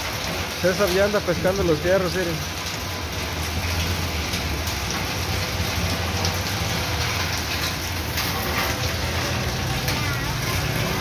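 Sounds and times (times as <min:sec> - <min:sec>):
rain falling on wet street: 0:00.0 - 0:11.0.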